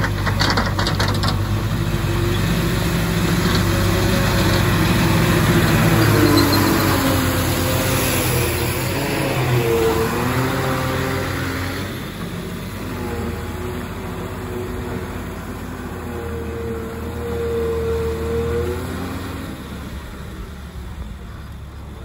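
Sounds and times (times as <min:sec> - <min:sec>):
lorry diesel engine pulling away: 0:00.0 - 0:22.0.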